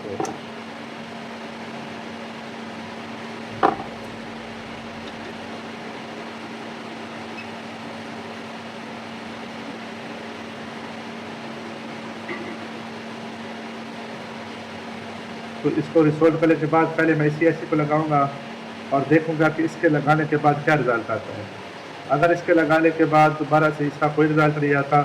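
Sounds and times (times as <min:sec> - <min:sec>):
electric fan hum: 0:00.0 - 0:25.0.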